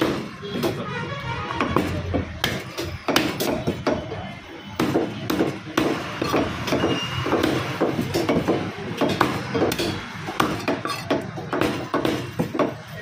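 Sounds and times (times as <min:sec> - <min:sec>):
cleaver chopping meat on wood: 0:00.0 - 0:00.9, 0:01.5 - 0:04.2, 0:04.8 - 0:13.0.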